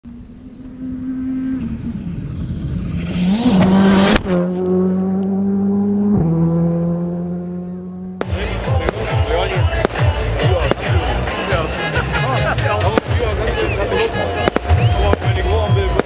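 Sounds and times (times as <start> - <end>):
rally car engine revving: 0.1 - 16.0.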